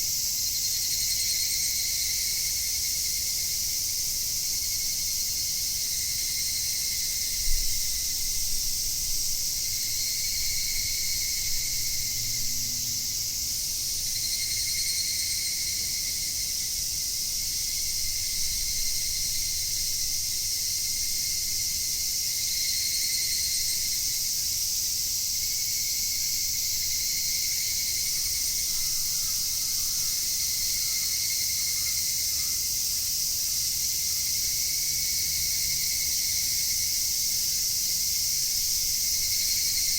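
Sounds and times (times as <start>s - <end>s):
cicadas shrilling: 0.0s - 39.9s
lower insect call: 0.0s - 39.9s.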